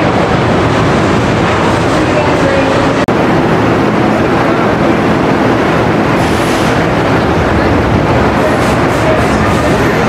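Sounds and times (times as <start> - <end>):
roller coaster train rolling on track: 0.0 - 10.0.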